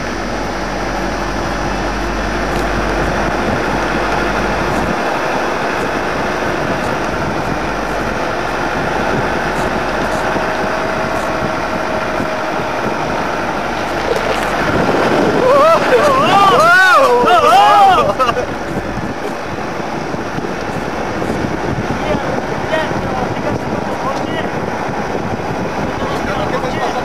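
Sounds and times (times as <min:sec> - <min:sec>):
low hum: 0:00.0 - 0:26.0
slow car on dirt track: 0:00.0 - 0:27.0.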